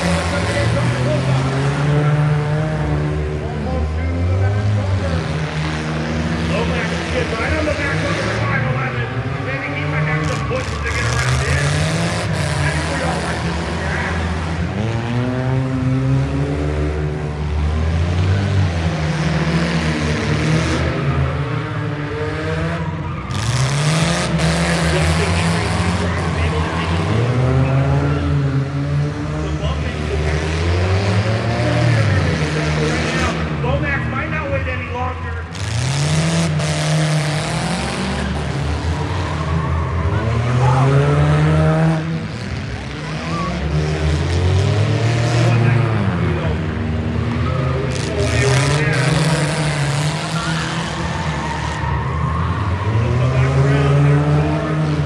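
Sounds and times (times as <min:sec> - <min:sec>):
broad noisy background: 0:00.0 - 0:55.0
race car engines running hard: 0:00.0 - 0:55.0.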